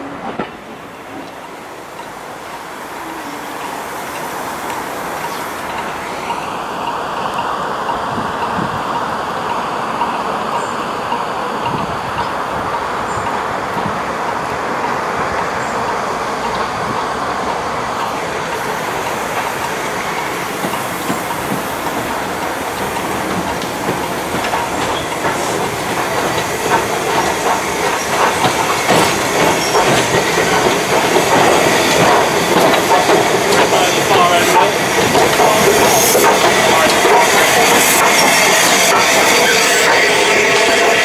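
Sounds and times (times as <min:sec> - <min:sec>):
steam locomotive running: 0:00.0 - 0:41.0
train wheels clicking over rail joints: 0:00.2 - 0:41.0.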